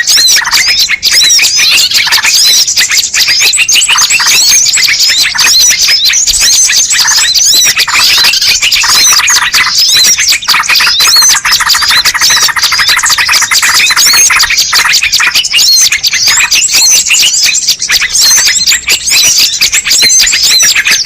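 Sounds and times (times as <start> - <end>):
small birds chirping in chorus: 0.0 - 21.0.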